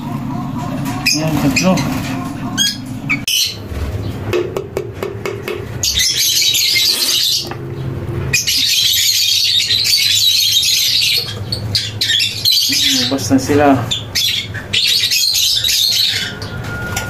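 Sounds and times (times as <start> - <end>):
lovebirds chattering and squawking: 0.0 - 17.0.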